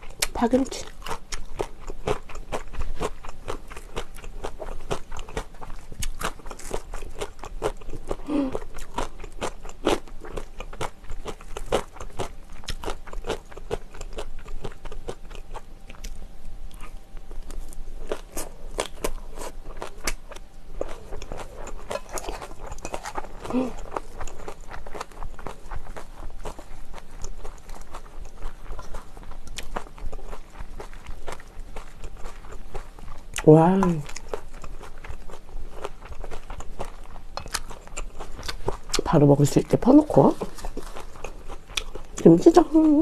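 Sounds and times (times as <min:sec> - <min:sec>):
wet crunchy chewing: 0:00.0 - 0:43.0.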